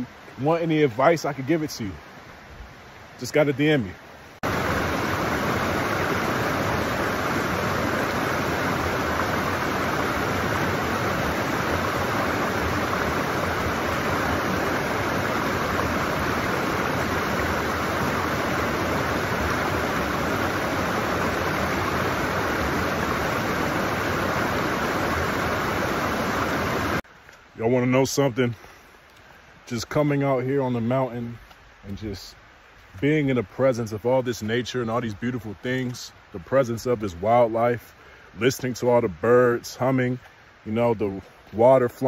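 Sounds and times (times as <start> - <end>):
creek rushing over boulders: 0.0 - 42.0.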